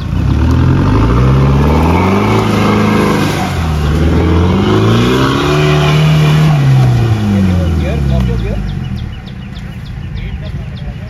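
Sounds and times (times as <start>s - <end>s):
engine revving under load: 0.0s - 10.3s.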